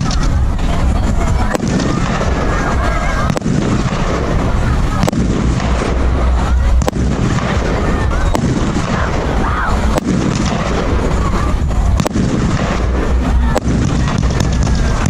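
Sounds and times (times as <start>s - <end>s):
firework launches and bursts: 0.0s - 15.0s
sharp firework cracks: 0.0s - 15.0s.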